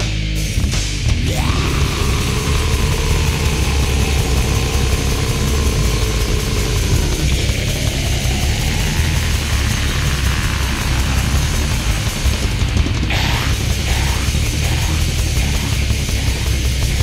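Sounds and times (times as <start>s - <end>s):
distorted guitars: 0.0s - 17.0s
fast pounding drums: 0.0s - 17.0s.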